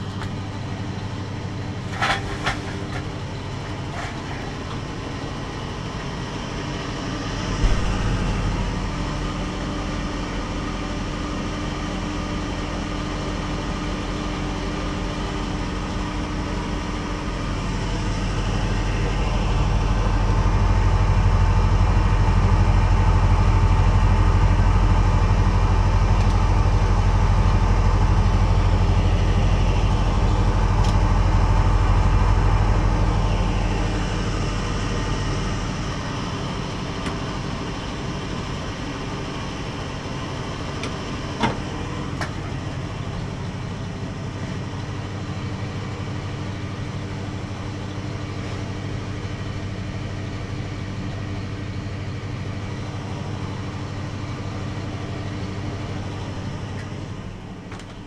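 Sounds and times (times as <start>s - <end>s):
refrigeration compressor hum: 0.0s - 58.0s.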